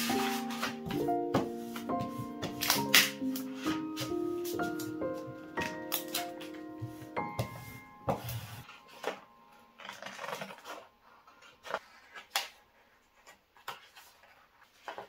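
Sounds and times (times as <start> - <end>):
vinyl sheets rustling and crinkling: 0.0 - 15.0.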